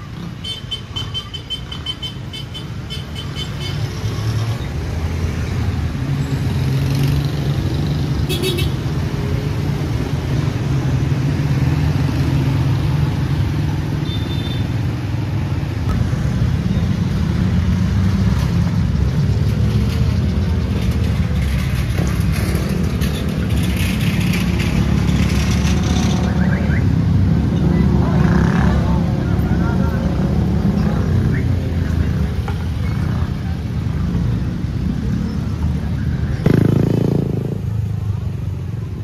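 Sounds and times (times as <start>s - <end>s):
vehicle engines droning: 0.0s - 39.0s.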